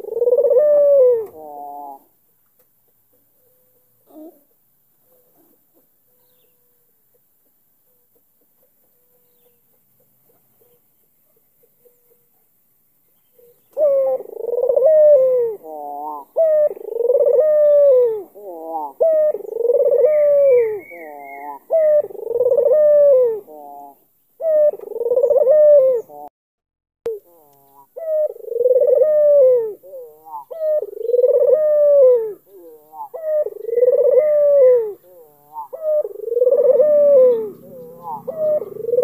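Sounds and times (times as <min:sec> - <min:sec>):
dove cooing: 0:00.0 - 0:02.2, 0:03.1 - 0:12.4, 0:13.3 - 0:26.3, 0:27.1 - 0:39.0.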